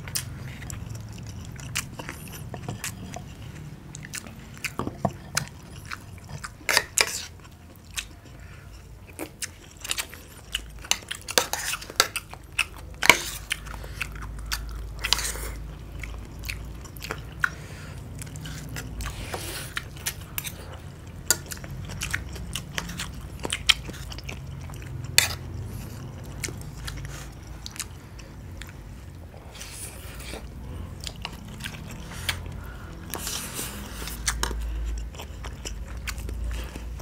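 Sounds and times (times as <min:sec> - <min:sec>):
people chewing and biting: 0:00.0 - 0:37.0.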